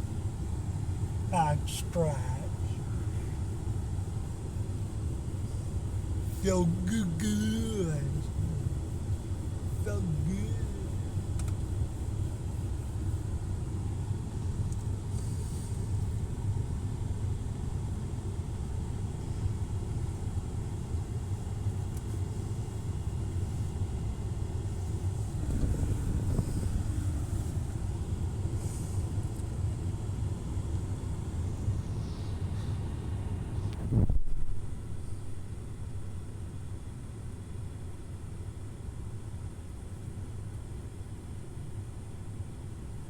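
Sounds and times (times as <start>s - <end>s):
automatic car wash rumble: 0.0s - 43.0s.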